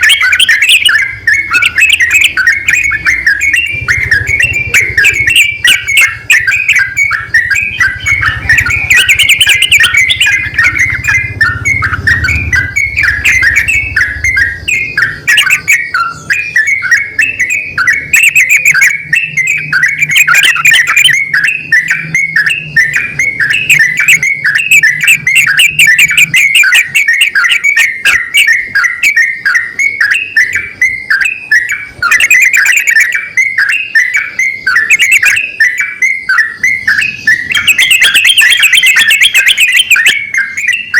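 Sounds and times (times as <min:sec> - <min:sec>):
birds chattering calls: 0:00.0 - 0:40.9.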